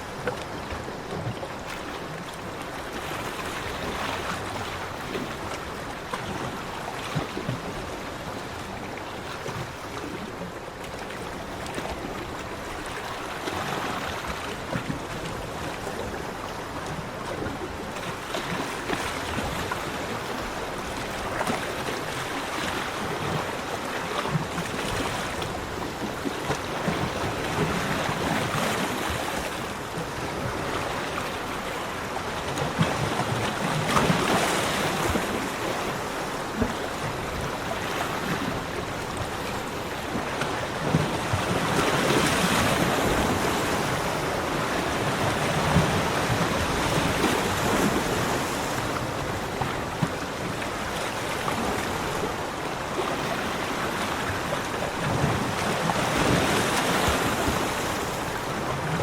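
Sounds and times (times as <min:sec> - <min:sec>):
sea waves breaking on beach: 0:00.0 - 0:59.0.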